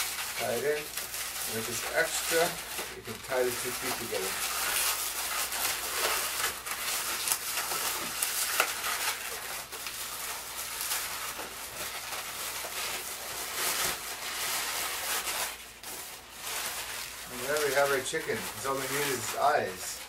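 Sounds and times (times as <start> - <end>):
balloons squeaking and rubbing: 0.0 - 20.0.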